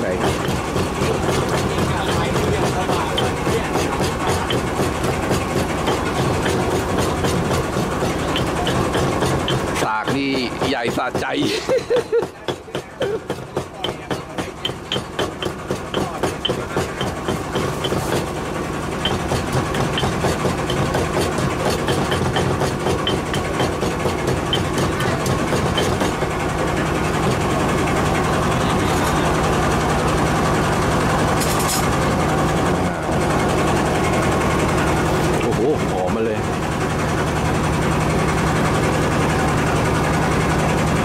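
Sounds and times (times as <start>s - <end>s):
pestle pounding in stone mortar: 0.0s - 40.4s
engine hum: 0.0s - 41.0s.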